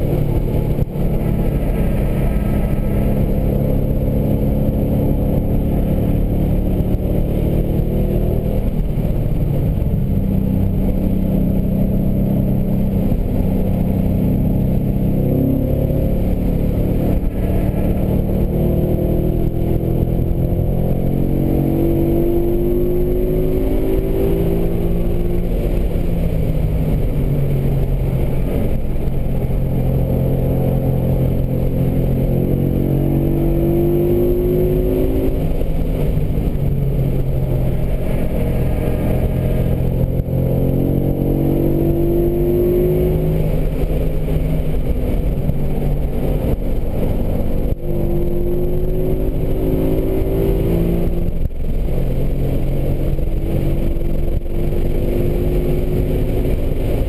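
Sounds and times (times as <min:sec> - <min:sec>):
road and wind noise: 0:00.0 - 0:57.0
car engine revving hard: 0:11.0 - 0:57.0.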